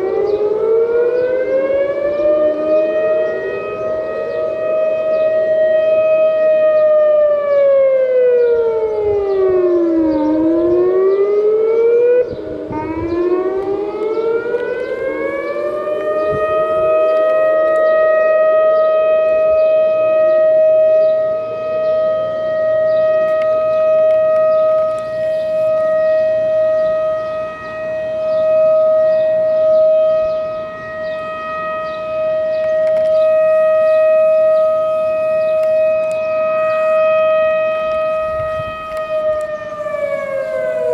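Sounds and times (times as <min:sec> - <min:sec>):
outdoor warning sirens: 0:00.0 - 0:40.9.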